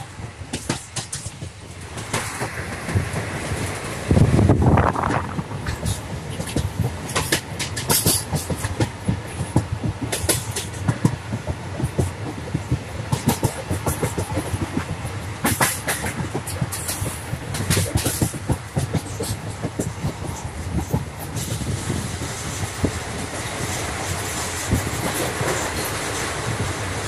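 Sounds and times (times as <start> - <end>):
train rumble: 0.0 - 27.0
train wheels clacking over track: 0.0 - 27.0.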